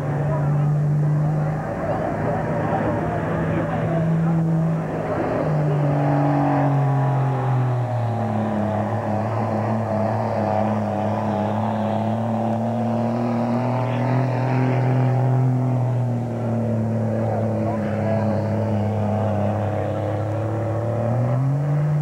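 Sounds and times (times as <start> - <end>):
pickup engine under heavy load: 0.0 - 22.0.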